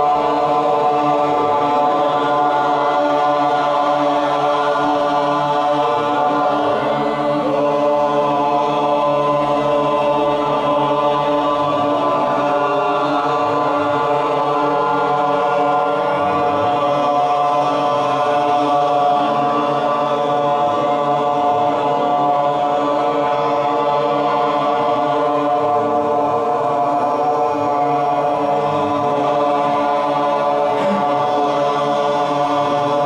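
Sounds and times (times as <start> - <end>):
group of voices chanting: 0.0 - 33.0.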